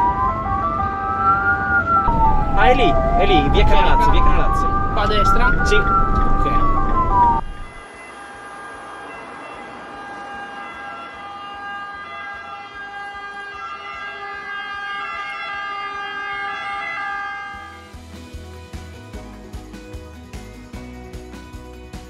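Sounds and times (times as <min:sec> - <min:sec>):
ambulance siren wailing: 0:00.0 - 0:18.1
road noise: 0:00.0 - 0:21.7.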